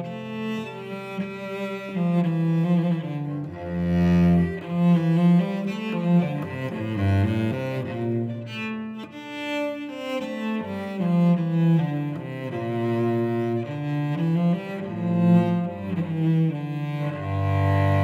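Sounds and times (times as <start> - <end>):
cello bowed solo: 0.0 - 18.0.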